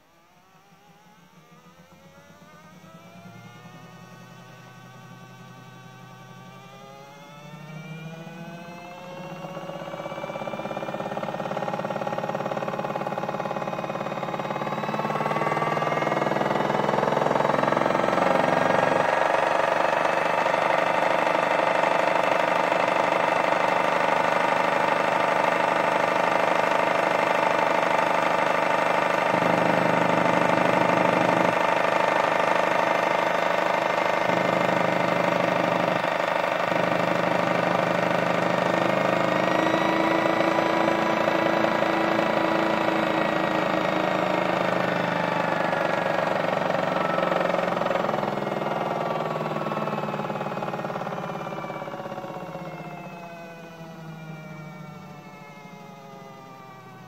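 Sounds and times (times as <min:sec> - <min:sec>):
toy washing machine motor whine: 0:00.0 - 0:57.0.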